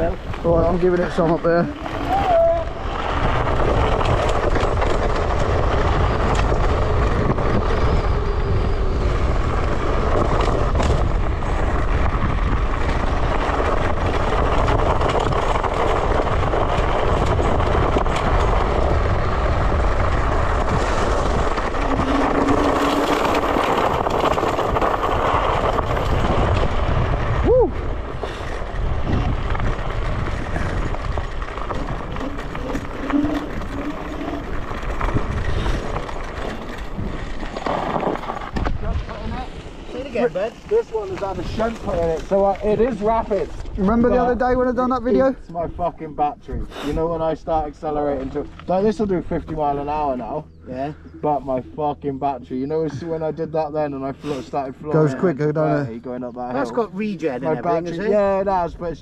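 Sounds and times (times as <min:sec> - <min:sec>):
wind buffeting microphone: 0:00.0 - 0:53.9
tyre and road noise: 0:00.0 - 0:59.0.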